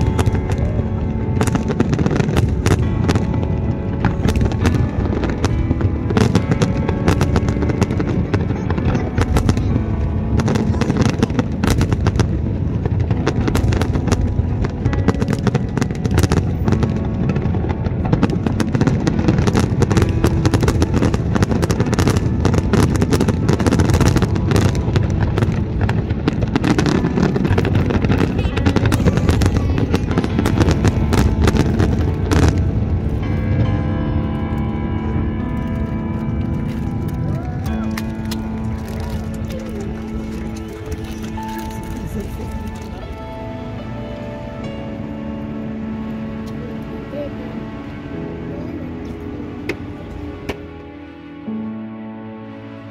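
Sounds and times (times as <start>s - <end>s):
fireworks bangs: 0.0s - 44.8s
music playing: 0.0s - 52.9s.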